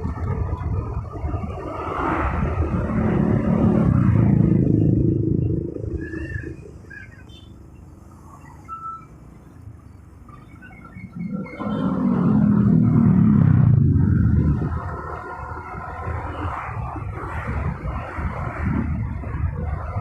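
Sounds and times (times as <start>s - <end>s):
traffic: 0.0s - 20.0s.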